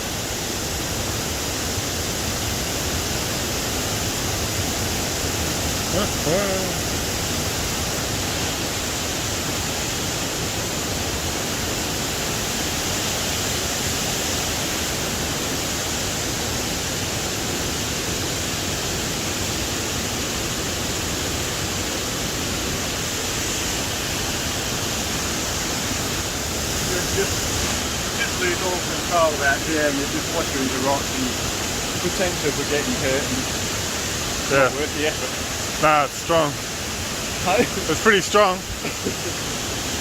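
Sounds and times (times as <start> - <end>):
creek water rushing over rocks: 0.0 - 40.0.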